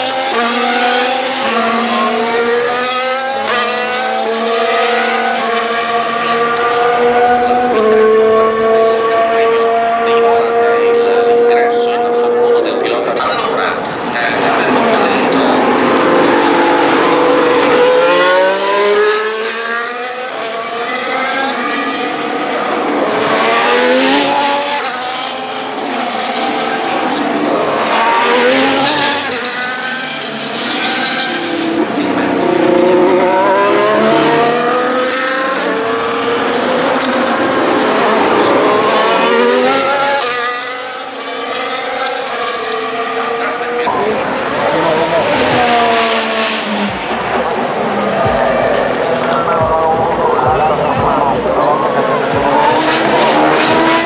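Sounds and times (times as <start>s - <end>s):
racing cars accelerating past: 0.0s - 54.0s.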